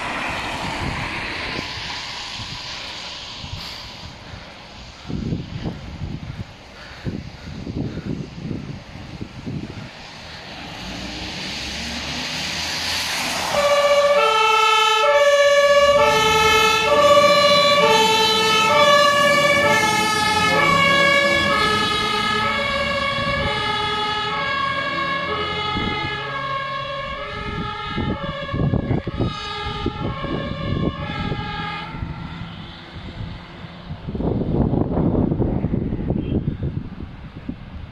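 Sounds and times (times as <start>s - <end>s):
vehicle engine rising: 0.0s - 6.2s, 8.8s - 35.6s
two-tone fire truck sirens: 0.0s - 6.6s, 7.6s - 35.2s.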